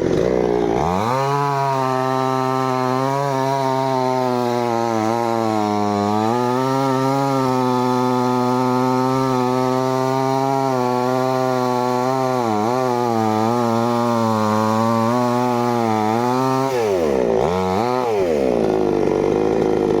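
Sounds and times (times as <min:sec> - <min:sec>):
chainsaw engine cutting: 0:00.0 - 0:20.0.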